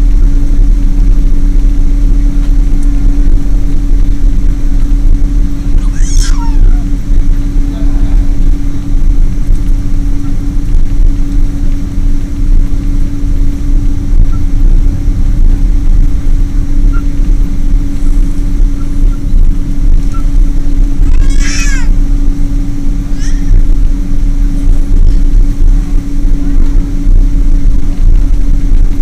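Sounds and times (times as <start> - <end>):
droning hum: 0.0 - 29.0
jet engines rumbling: 0.0 - 29.0.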